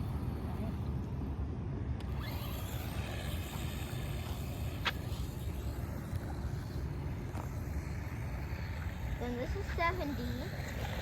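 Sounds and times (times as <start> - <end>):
electric motor whine: 2.0 - 11.0.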